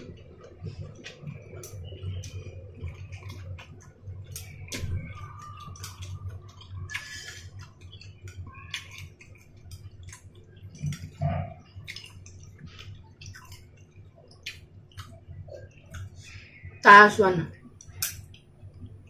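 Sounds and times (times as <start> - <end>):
chewing and wet mouth noises: 0.0 - 16.8, 17.5 - 19.0
steady low hum: 0.0 - 19.0.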